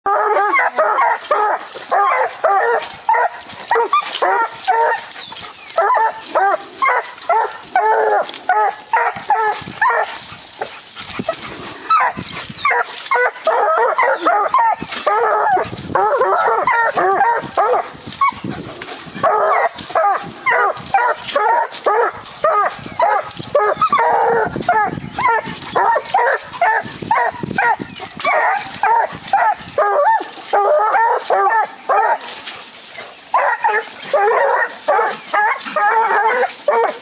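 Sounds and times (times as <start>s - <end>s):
puppies barking and yipping: 0.0s - 37.0s.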